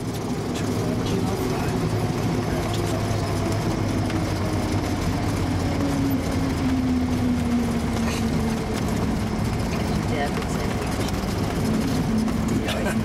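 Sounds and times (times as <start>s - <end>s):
airplane engine humming: 0.0s - 13.0s.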